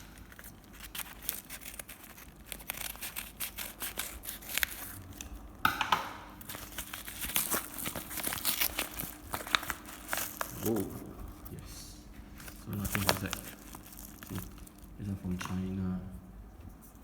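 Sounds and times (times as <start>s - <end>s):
packaging tearing: 0.0s - 5.3s, 6.4s - 11.6s, 12.3s - 15.6s
packaging crinkling: 0.0s - 5.4s, 6.4s - 15.7s.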